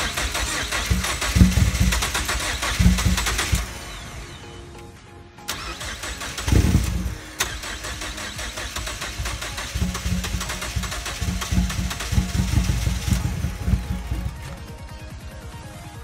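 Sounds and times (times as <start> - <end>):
car engine starting and running: 0.0 - 15.8.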